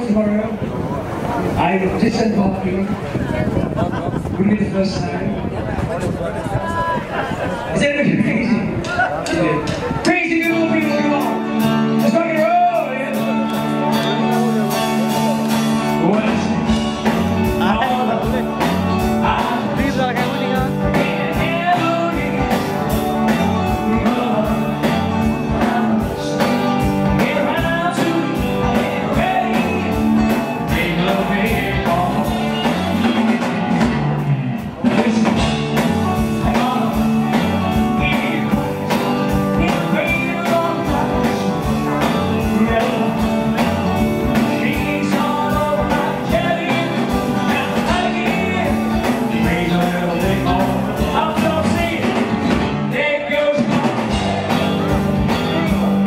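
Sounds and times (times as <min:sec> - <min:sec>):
male lead singer: 0:00.0 - 0:56.0
live rock band playing: 0:06.5 - 0:56.0.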